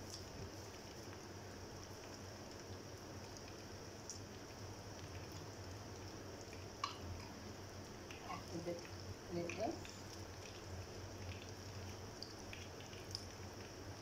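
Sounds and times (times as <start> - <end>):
low steady background hiss: 0.0 - 14.0.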